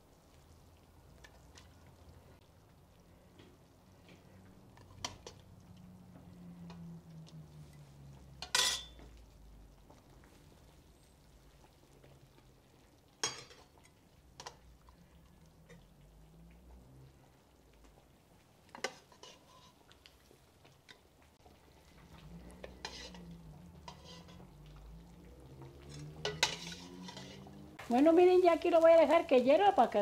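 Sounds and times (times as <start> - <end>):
sauce simmering: 0.0 - 30.0.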